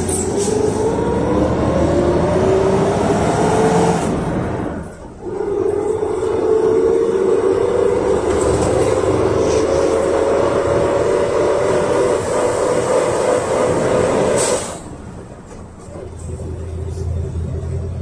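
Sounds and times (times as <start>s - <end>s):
bus engine whine and rumble: 0.0s - 18.0s.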